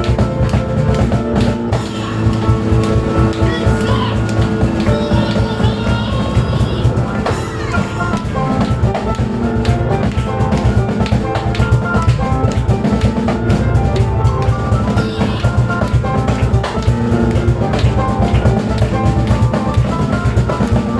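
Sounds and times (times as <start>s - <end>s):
drum kit and cajon: 0.0s - 20.9s
piano playing fast line: 0.0s - 20.9s.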